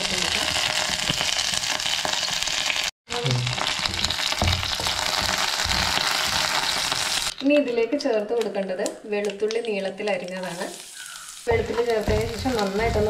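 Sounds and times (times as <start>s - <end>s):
spices sizzling in hot oil: 0.0s - 7.8s, 9.4s - 13.0s.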